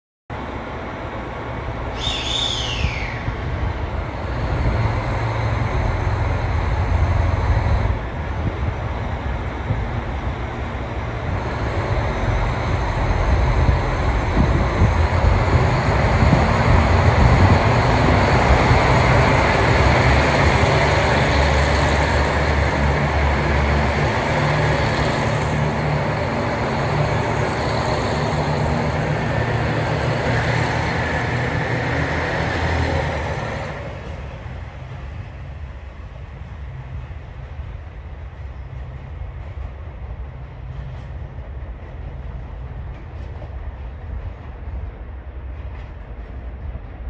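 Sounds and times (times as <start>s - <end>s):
diesel train rolling past: 0.3s - 47.0s.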